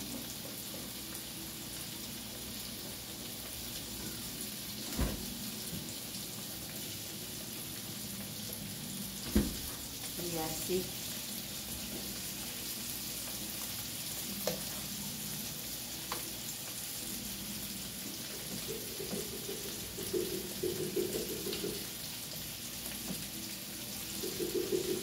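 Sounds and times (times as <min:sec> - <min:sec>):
liver sizzling in a pan: 0:00.0 - 0:25.0.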